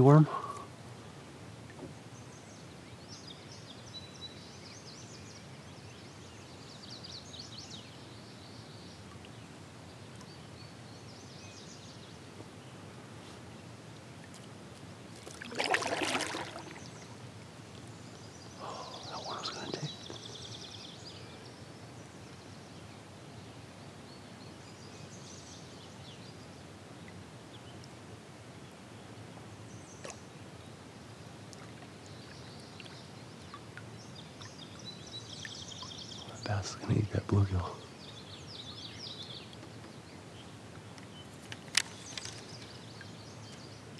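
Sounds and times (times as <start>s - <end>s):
faint birds chirping: 0.0s - 43.9s
lake ambience: 0.0s - 43.9s.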